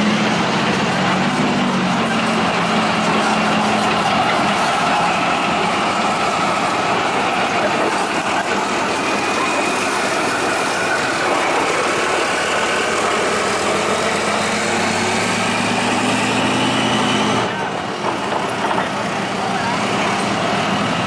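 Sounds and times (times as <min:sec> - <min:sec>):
tank diesel engines idling: 0:00.0 - 0:21.0.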